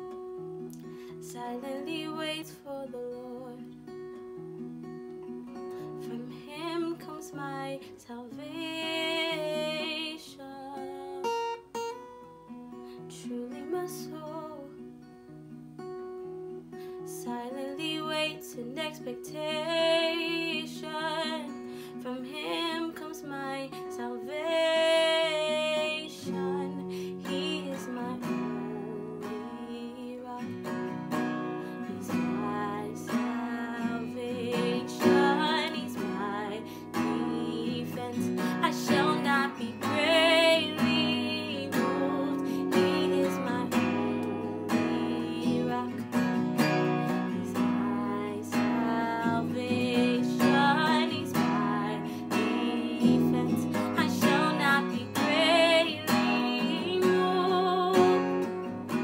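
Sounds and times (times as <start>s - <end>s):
woman singing: 0.7s - 3.8s, 5.6s - 11.8s, 12.7s - 15.0s, 16.9s - 59.0s
acoustic guitar strumming: 10.8s - 59.0s.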